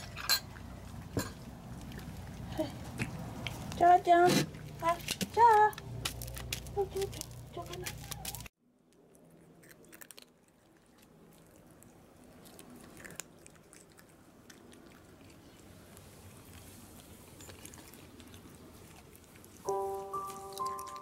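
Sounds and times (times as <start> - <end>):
cat crunching dry kibble: 0.5 - 3.8, 4.5 - 21.0.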